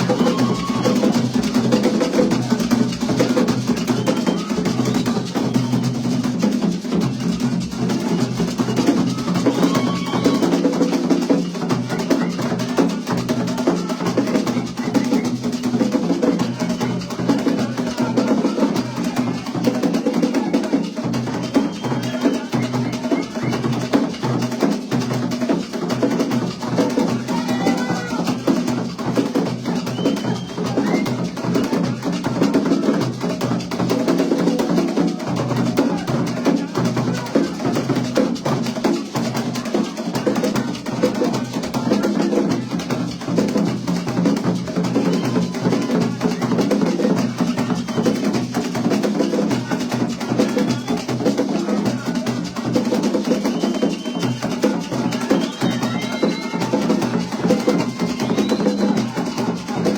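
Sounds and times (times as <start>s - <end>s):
drum and percussion music: 0.0s - 59.9s.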